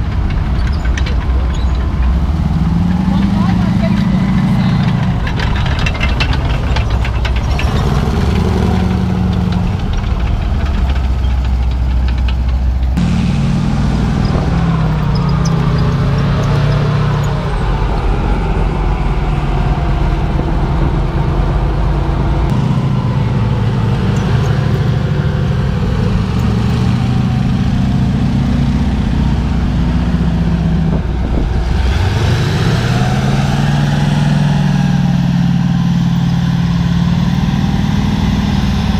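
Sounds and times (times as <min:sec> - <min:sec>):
heavy truck engine running: 0:00.0 - 0:38.9.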